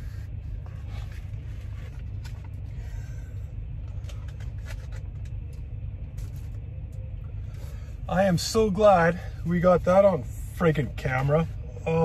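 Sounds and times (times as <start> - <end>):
truck idling rumble: 0.0 - 12.0.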